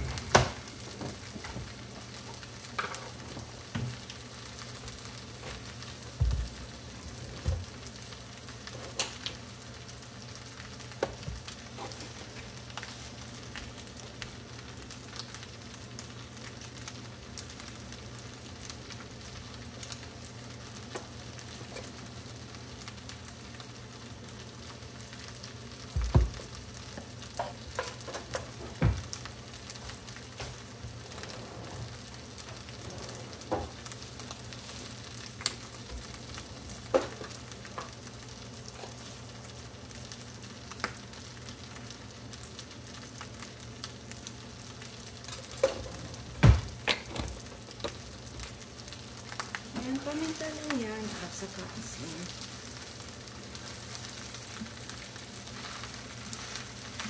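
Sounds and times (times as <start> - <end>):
rice sizzling in a frying pan: 0.0 - 57.0.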